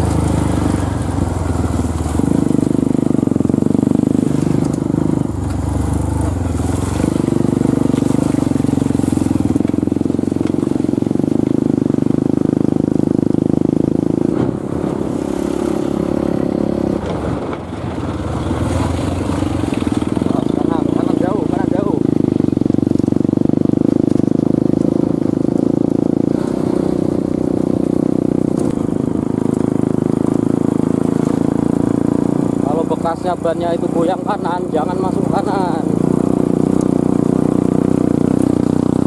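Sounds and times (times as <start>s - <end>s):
truck diesel engine running: 0.0s - 39.0s.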